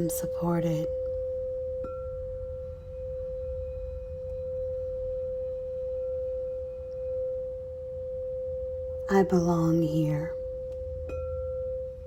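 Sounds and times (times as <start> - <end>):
crystal singing bowl ringing: 0.0 - 12.0.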